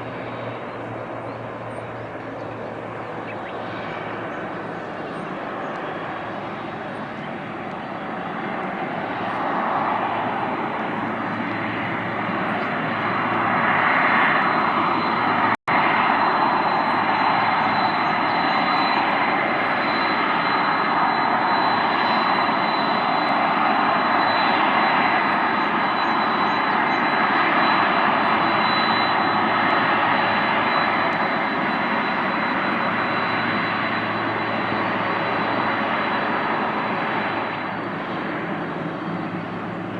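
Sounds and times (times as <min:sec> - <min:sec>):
jet engine roar with high whine: 0:00.0 - 0:39.9.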